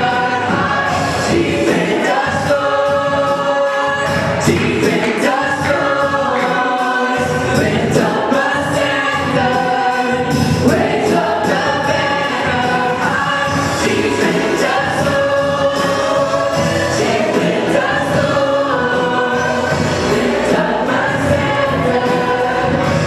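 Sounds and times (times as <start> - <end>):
gospel choir singing: 0.0 - 23.0.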